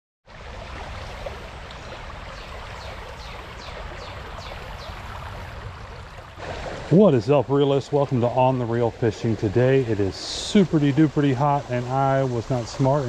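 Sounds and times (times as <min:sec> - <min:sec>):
creek water rushing over rocks: 0:00.3 - 0:13.0.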